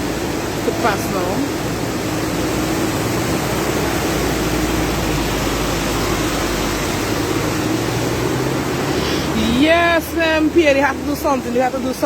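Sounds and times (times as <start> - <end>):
floodwater rushing: 0.0 - 12.0
low engine drone: 0.0 - 12.0.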